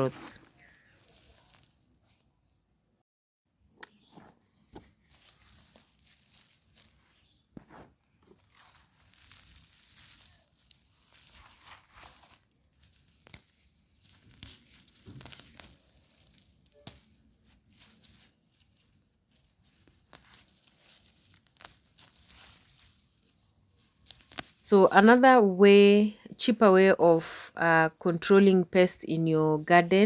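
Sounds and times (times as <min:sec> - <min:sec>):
rustling of garden plants: 0:00.0 - 0:02.6, 0:03.9 - 0:26.0.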